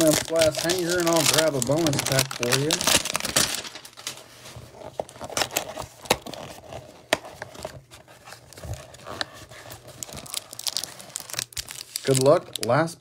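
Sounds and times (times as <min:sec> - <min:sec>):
cellophane crinkling: 0:00.0 - 0:13.0.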